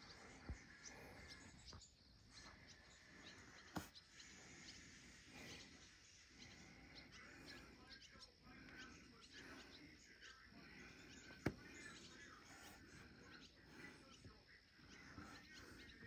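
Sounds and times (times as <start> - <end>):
faint outdoor ambience: 0.0 - 16.0
small birds chirping: 0.0 - 16.0.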